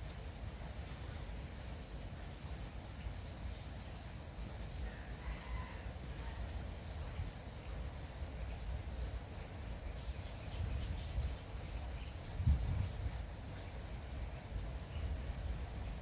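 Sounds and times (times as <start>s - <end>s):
light steady rain: 0.0s - 16.0s.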